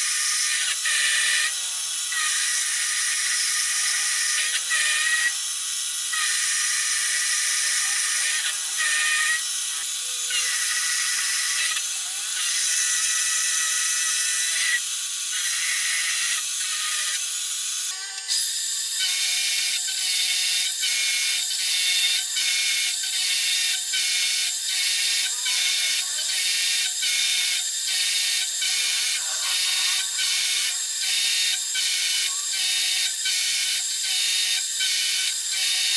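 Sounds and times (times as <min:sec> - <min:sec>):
milling machine cutting metal: 0:00.0 - 0:35.9.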